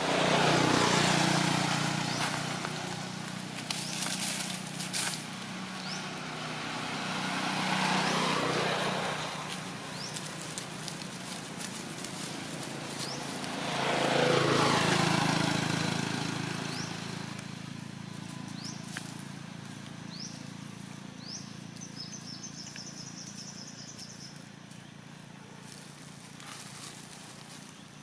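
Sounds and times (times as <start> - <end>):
vehicle passing by: 0.0 - 28.0.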